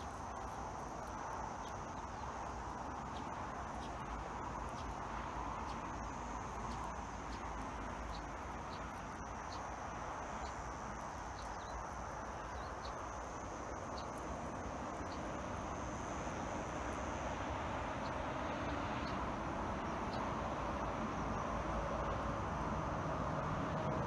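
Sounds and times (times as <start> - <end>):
insect drone: 0.0 - 24.0
traffic hum: 0.0 - 24.0.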